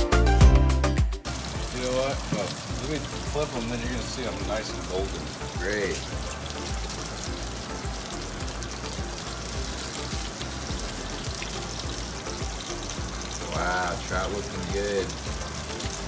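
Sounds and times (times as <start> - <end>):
fish frying in oil: 1.2 - 16.0.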